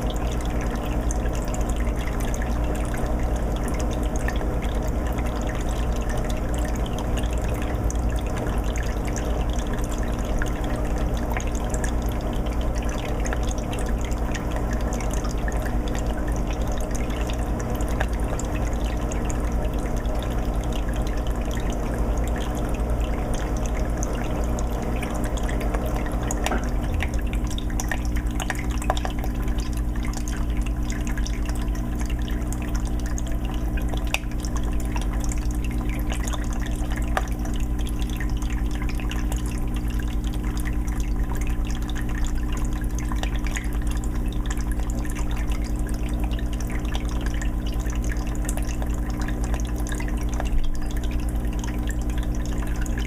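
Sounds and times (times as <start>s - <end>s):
filter motor humming: 0.0s - 53.0s
water trickling into fish tank: 0.0s - 53.0s.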